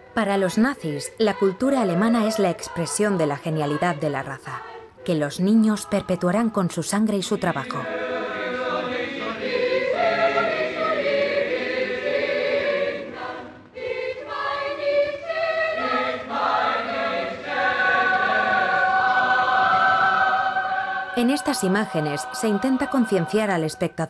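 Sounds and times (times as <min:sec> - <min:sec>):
youth choir singing: 0:00.8 - 0:23.7.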